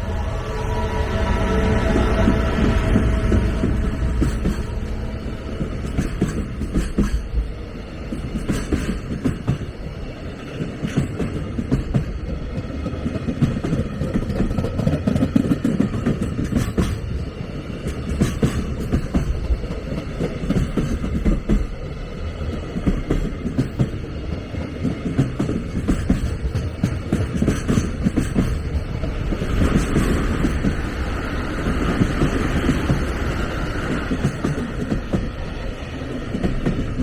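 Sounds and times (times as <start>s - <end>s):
train wheels rumbling on rail: 0.0s - 37.0s
wheels clacking over rail joints: 2.2s - 37.0s.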